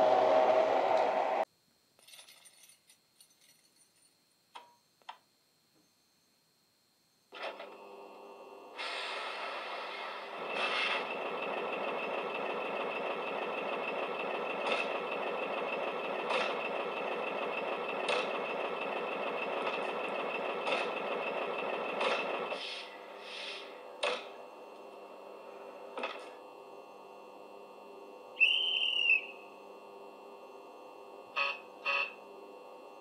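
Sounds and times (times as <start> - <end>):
electric train running hum: 0.0 - 1.5, 6.6 - 33.0.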